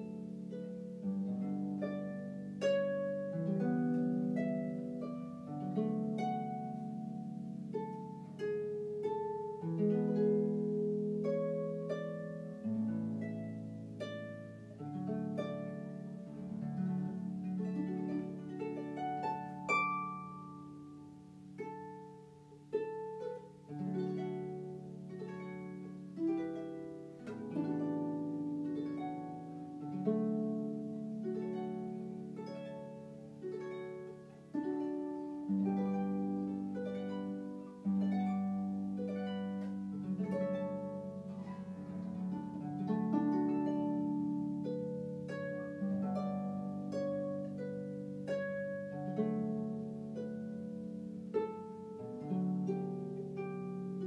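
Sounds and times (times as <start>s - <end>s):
plucked instrumental music: 0.0s - 54.0s.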